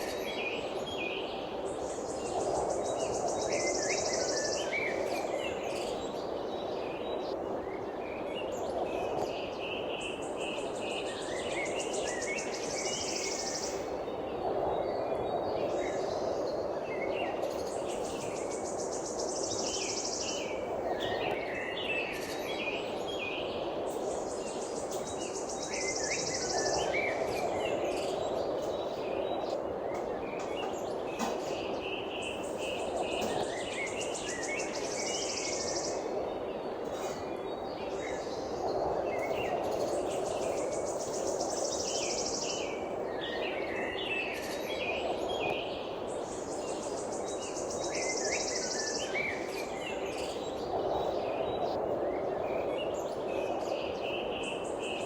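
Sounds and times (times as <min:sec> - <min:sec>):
birds chirping: 0:00.0 - 0:55.0
steady rushing hiss: 0:00.0 - 0:55.0.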